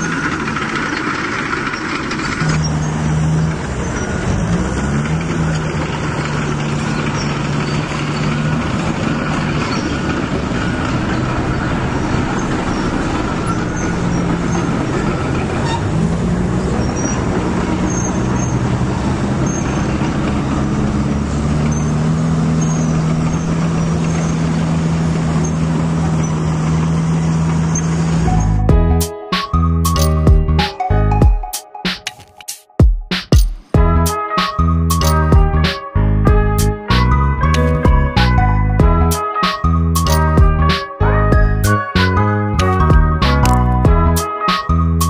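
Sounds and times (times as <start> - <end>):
construction machinery engine: 0.0 - 31.2, 33.9 - 45.0.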